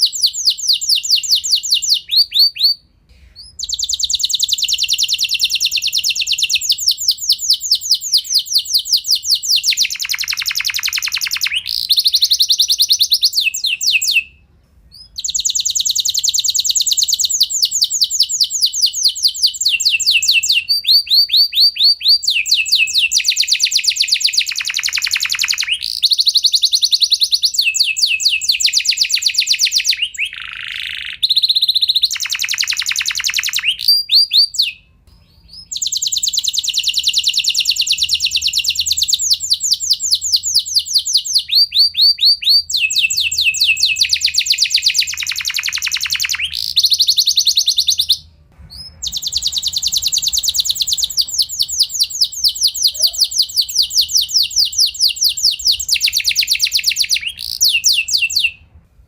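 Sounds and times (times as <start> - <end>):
canary singing long rolls: 0.0 - 58.7.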